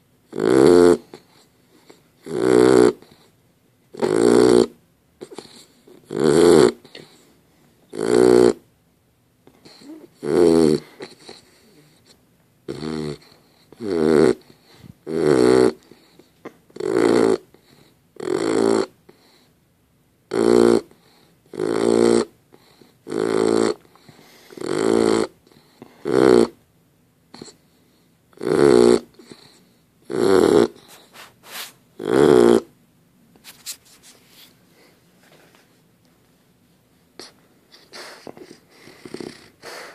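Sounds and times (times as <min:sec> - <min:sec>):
puppy snoring: 0:00.0 - 0:07.3, 0:07.9 - 0:08.7, 0:09.4 - 0:19.5, 0:20.3 - 0:26.6, 0:27.3 - 0:32.8, 0:37.2 - 0:39.9.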